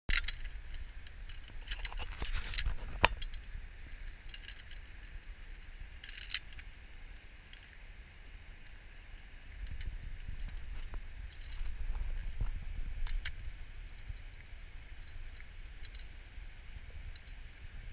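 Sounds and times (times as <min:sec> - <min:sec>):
metal carabiners clinking: 0:00.1 - 0:07.8, 0:09.6 - 0:16.3, 0:17.0 - 0:17.6
wind rumble on microphone: 0:00.1 - 0:17.9.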